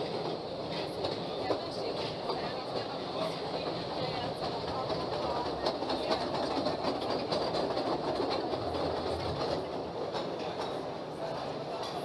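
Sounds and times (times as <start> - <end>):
train cars clacking and rattling: 0.0 - 12.0
train wheels rumbling on rail: 0.0 - 12.0.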